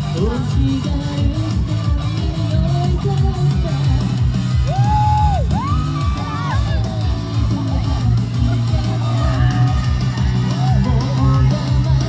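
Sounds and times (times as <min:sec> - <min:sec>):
live rock band: 0:00.0 - 0:12.0.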